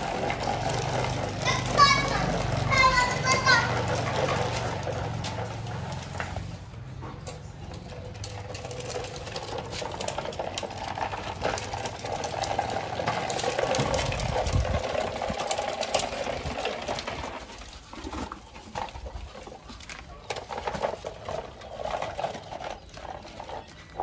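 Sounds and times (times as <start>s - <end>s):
toy truck wheels rolling on concrete: 0.0s - 24.0s.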